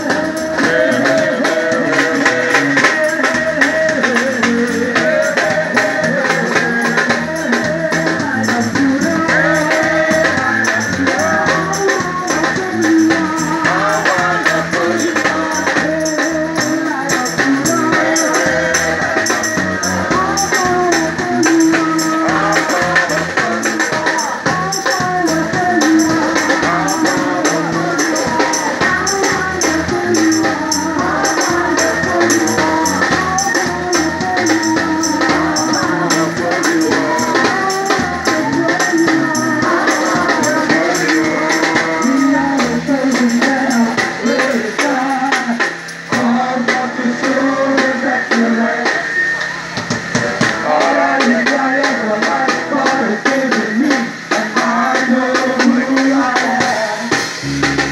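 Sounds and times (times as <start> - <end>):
man singing into a microphone: 0.0 - 49.1, 50.6 - 57.6
fast percussion beat: 0.0 - 57.9
upbeat music over loudspeakers: 0.0 - 57.9.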